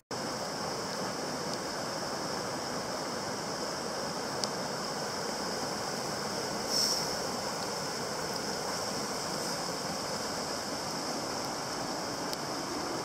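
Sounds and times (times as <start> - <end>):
river rushing over rocks: 0.2 - 13.0.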